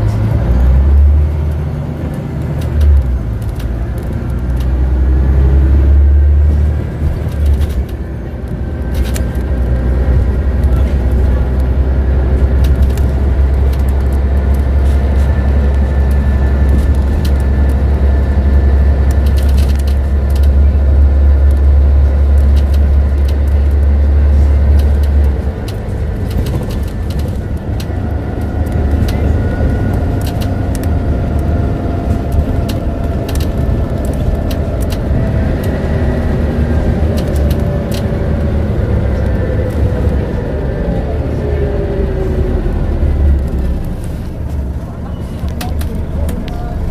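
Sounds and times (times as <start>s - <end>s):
bus engine drone: 0.0s - 46.9s
drivetrain whine: 0.0s - 46.9s.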